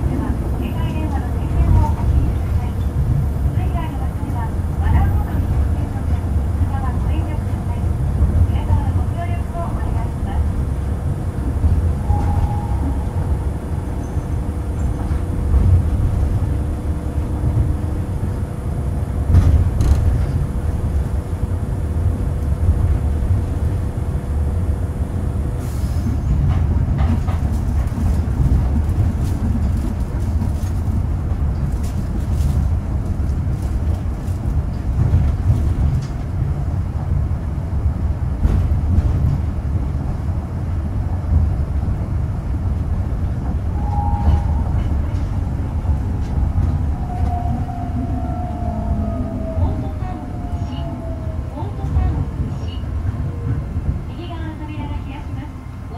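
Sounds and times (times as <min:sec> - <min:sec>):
train running low rumble: 0:00.0 - 0:55.9.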